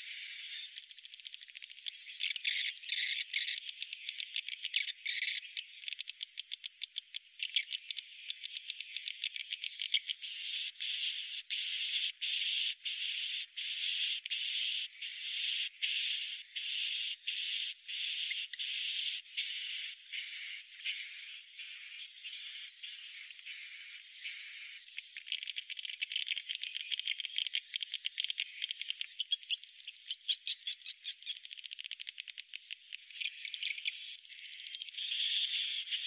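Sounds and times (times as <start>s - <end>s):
rapid clicking bird twitter: 0.0s - 36.0s.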